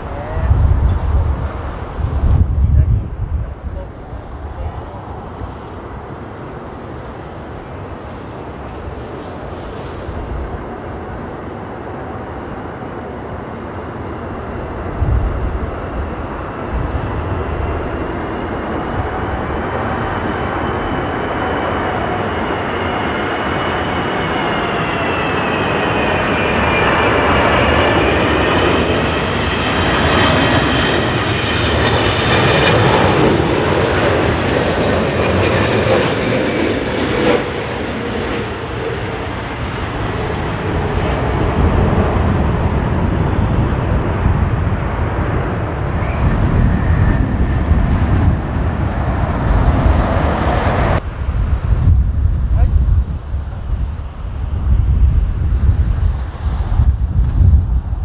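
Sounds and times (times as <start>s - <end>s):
jet airliner flying overhead: 0.0s - 58.0s.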